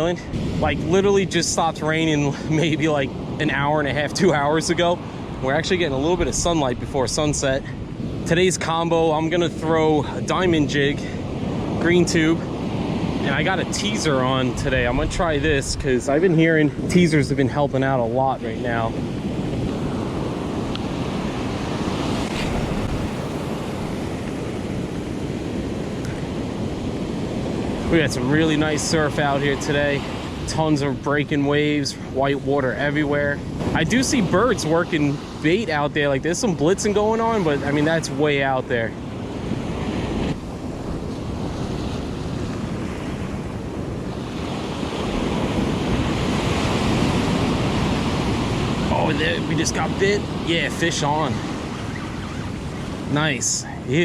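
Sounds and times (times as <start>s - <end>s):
ocean waves breaking on beach: 0.0s - 54.0s
wind buffeting microphone: 0.0s - 54.0s.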